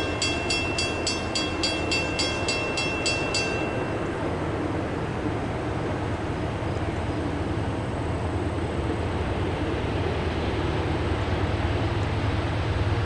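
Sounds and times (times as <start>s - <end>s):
distant train rumble: 0.0s - 13.0s.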